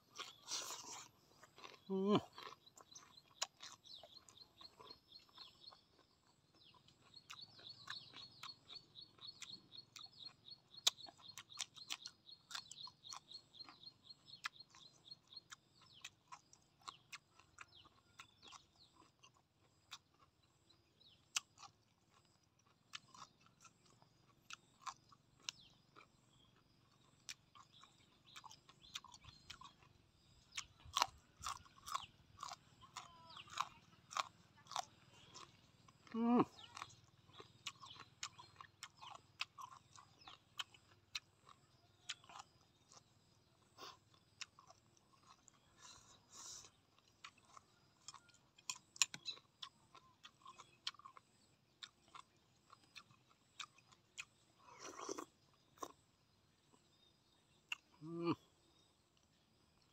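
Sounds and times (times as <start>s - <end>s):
crunchy vegetable bites: 0.0s - 57.0s, 57.6s - 58.4s
mouth chewing food: 0.0s - 59.9s.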